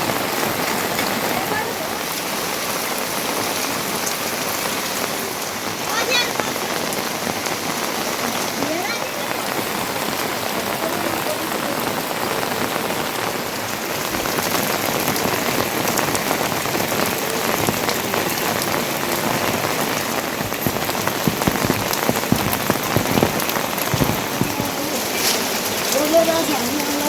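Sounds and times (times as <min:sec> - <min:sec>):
heavy rain falling: 0:00.0 - 0:27.0
sharp water drips nearby: 0:00.0 - 0:27.0.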